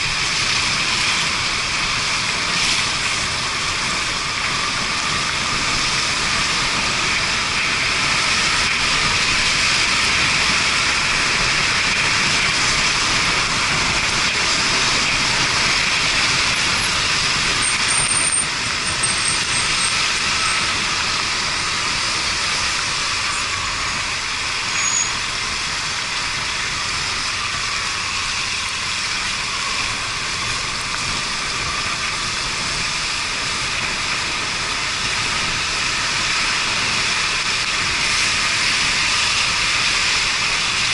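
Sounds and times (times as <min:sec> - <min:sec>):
tyres on wet road: 0:00.0 - 0:40.9.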